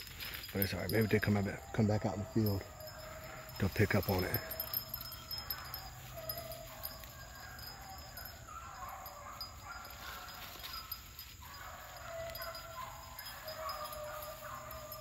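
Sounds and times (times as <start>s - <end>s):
high insect drone: 0.0s - 15.0s
distant hounds baying: 0.1s - 15.0s.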